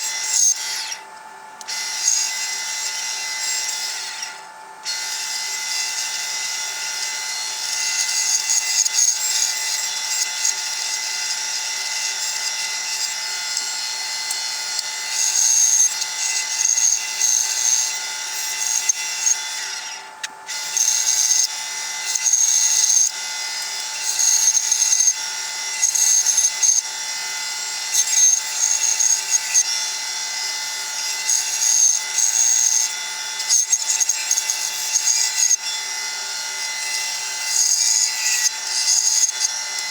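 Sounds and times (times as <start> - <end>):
bandsaw cutting wood: 0.0 - 1.0, 1.6 - 39.9.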